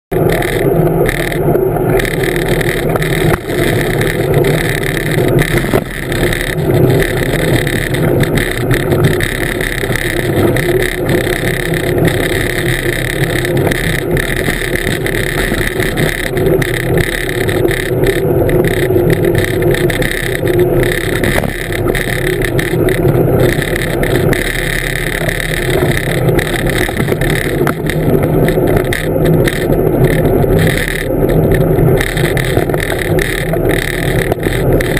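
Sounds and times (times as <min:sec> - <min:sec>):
wheels rolling noise: 0:00.1 - 0:34.9.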